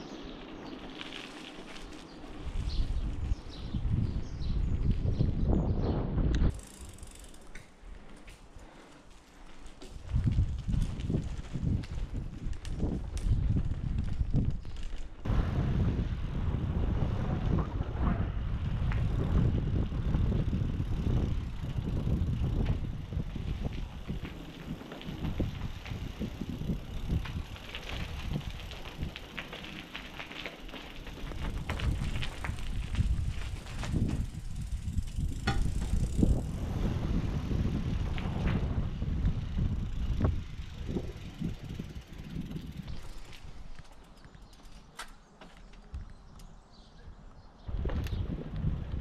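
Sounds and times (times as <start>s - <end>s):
bike clicks and rattles: 0.0s - 4.1s, 6.3s - 15.3s, 16.9s - 46.8s, 47.7s - 49.0s
wind buffeting microphone: 1.7s - 6.6s, 9.9s - 44.5s, 45.8s - 49.0s.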